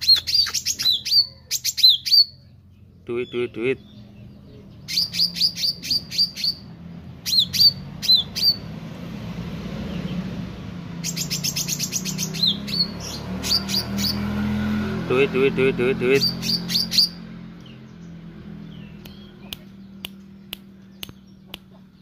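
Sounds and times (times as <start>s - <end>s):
bird chirping: 0.0s - 8.9s, 9.7s - 22.0s.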